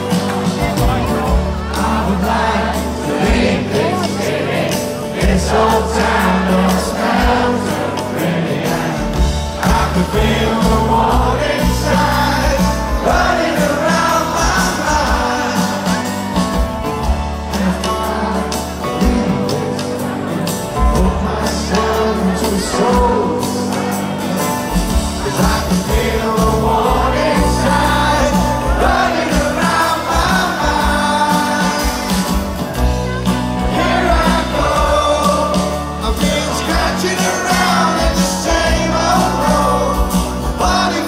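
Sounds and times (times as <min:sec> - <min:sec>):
bass guitar: 0:00.0 - 0:41.0
drums: 0:00.0 - 0:41.0
electric guitar: 0:00.0 - 0:41.0
man singing: 0:05.2 - 0:16.4, 0:17.1 - 0:41.0.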